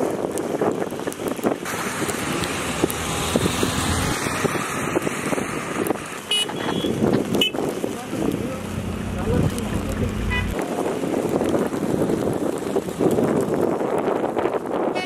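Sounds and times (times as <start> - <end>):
tyres on snow: 0.0 - 15.0
vehicle engines running: 0.6 - 14.5.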